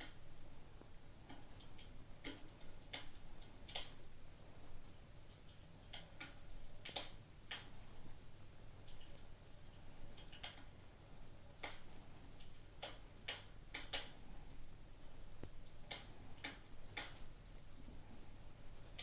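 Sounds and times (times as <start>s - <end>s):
fireplace crackling and popping: 0.0s - 19.0s.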